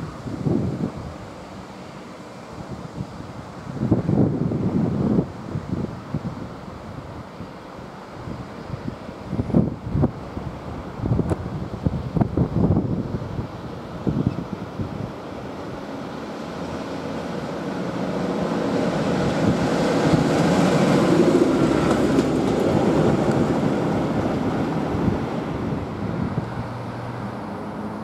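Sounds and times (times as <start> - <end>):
diesel locomotive passing: 0.0 - 28.0.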